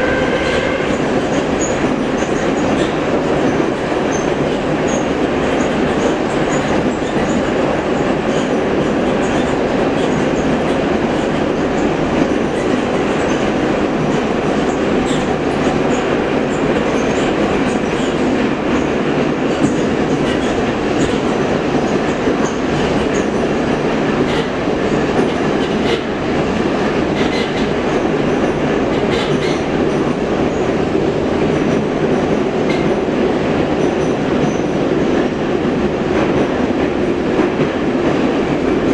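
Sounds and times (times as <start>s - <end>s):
metro train rumbling in tunnel: 0.0s - 38.9s.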